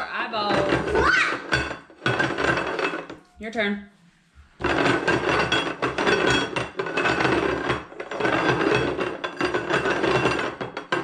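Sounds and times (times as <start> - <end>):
ceramic bowls scraping on tile: 0.0 - 3.2, 4.6 - 11.0.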